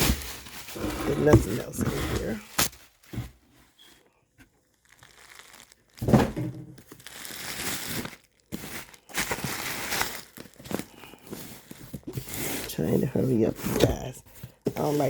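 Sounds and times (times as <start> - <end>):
packaging crinkling: 0.0 - 4.0, 4.6 - 12.8.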